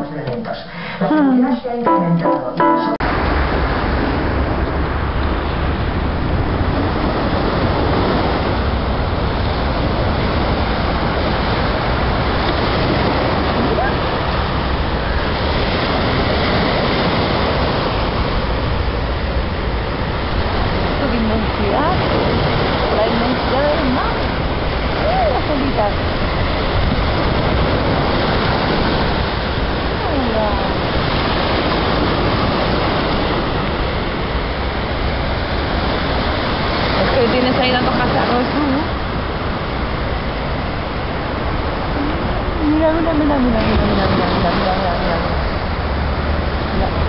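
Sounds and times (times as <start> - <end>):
waves breaking on beach: 3.0 - 47.0
wind buffeting microphone: 3.0 - 47.0.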